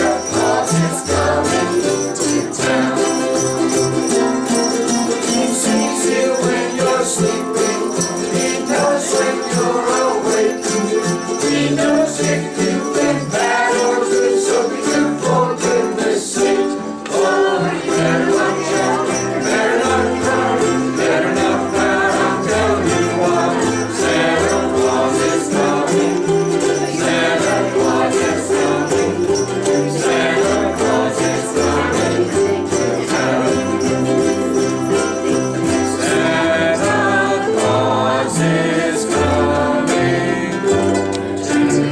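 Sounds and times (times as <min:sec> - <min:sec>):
jingle bells shaking: 0:00.0 - 0:41.9
ukuleles strumming: 0:00.0 - 0:41.9.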